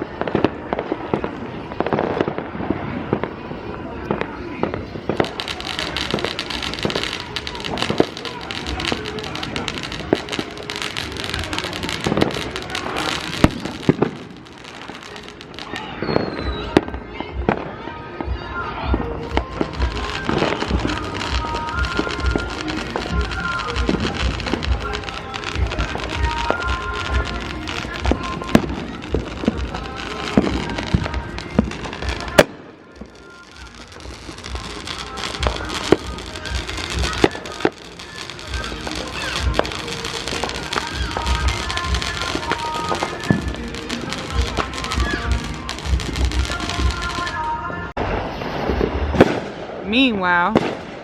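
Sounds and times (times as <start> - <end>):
firecrackers crackling: 0.0 - 51.0
firework bangs: 0.0 - 51.0
background music with steady beat: 4.7 - 48.0.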